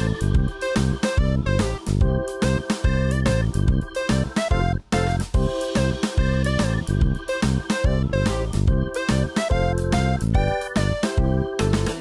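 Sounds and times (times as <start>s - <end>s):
upbeat keyboard and bass music: 0.0s - 12.0s.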